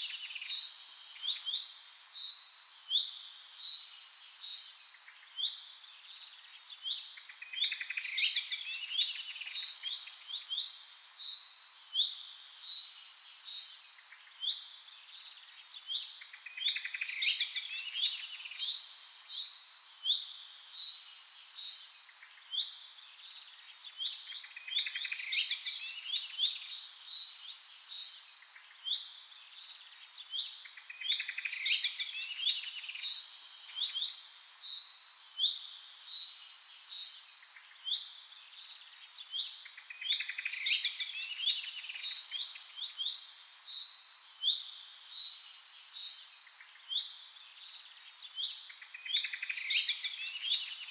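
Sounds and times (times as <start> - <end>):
songbirds chirping and trilling: 0.0 - 50.9.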